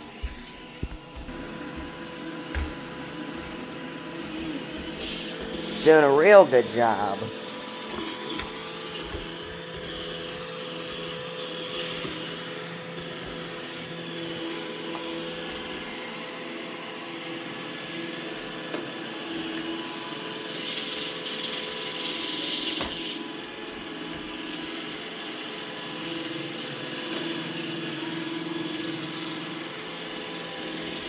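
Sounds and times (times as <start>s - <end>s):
robot vacuum running: 0.0s - 31.0s.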